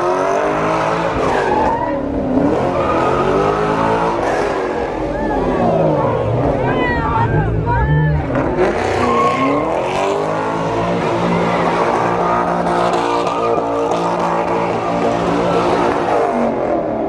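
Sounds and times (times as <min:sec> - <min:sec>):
car engine revving hard: 0:00.0 - 0:06.6, 0:08.2 - 0:17.0.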